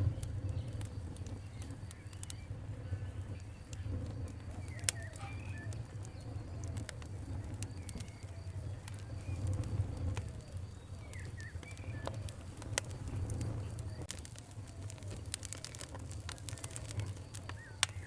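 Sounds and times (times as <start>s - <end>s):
low steady rumble: 0.0s - 17.9s
wood fire crackling: 0.0s - 18.0s
faint bird calls: 1.3s - 18.0s.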